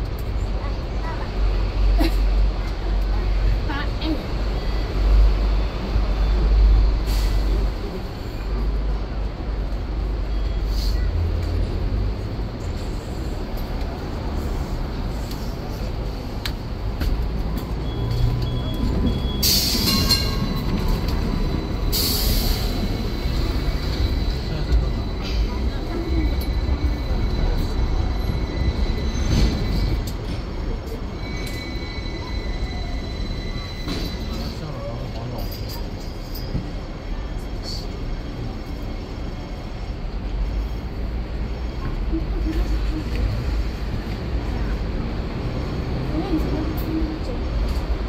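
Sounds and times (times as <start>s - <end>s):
city street noise: 0.0s - 48.0s
electric tram rumbling on rails: 0.0s - 48.0s.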